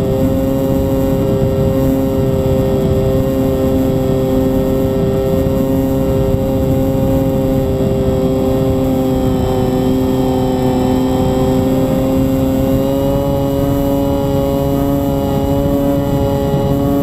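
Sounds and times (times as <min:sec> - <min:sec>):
rough air noise on microphone: 0:00.0 - 0:17.0.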